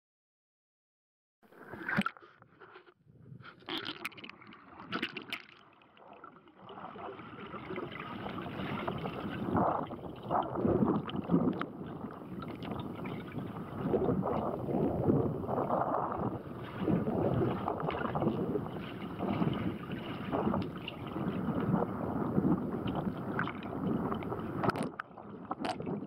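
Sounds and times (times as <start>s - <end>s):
water sloshing underwater: 1.5s - 26.0s
rush of water: 3.7s - 26.0s.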